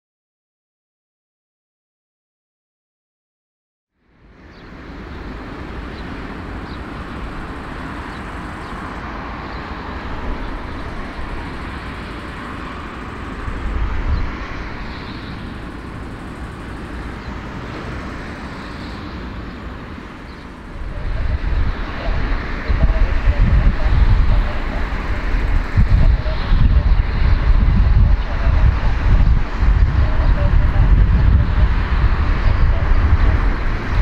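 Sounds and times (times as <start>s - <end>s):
jet engines rushing: 4.1s - 34.0s
low rumbles: 4.5s - 34.0s.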